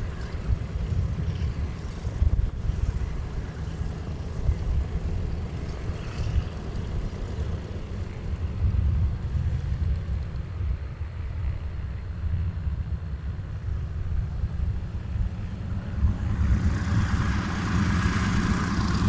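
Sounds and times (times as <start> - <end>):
distant propeller plane engines rumbling: 0.0 - 19.0.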